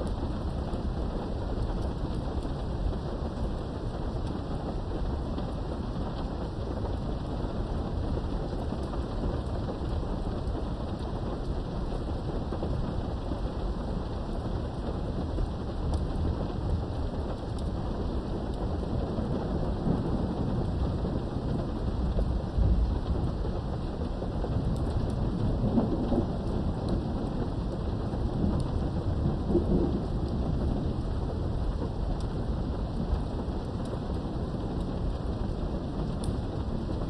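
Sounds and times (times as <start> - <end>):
low rolling thunder: 0.0 - 37.0
rain behind a window: 0.0 - 37.0.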